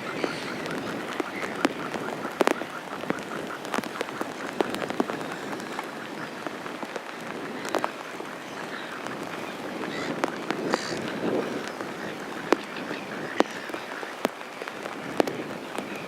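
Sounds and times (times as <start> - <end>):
gulls calling: 0.0 - 16.0
steady hiss: 0.0 - 16.0.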